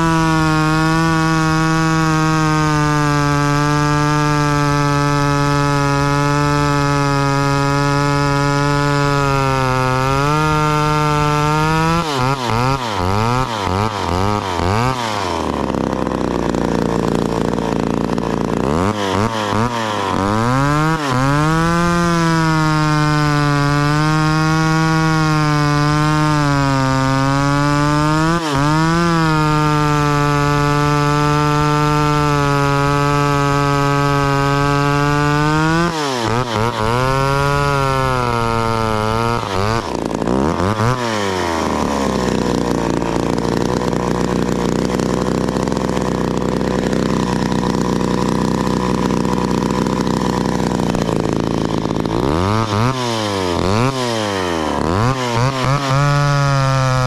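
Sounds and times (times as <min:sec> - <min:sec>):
chainsaw running at high revs: 0:00.0 - 0:57.0.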